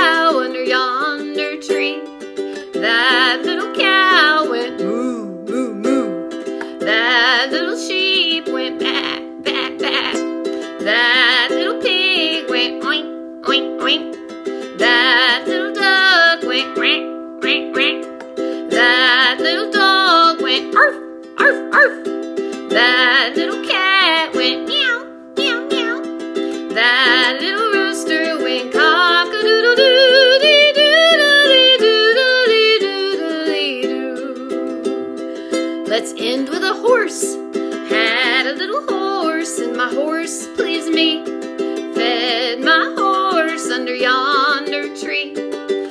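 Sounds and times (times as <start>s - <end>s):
ukulele strumming chords: 0.0s - 45.9s
woman singing: 0.0s - 45.9s.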